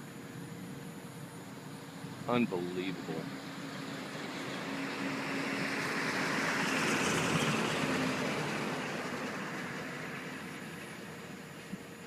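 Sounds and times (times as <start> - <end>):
road vehicle passing by: 1.7 - 12.0.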